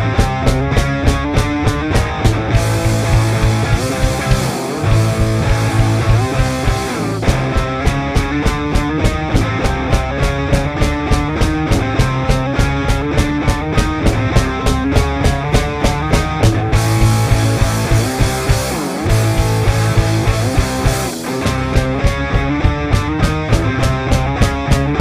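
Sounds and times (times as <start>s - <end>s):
fast even drum beat: 0.0s - 25.0s
rock band playing: 0.0s - 25.0s.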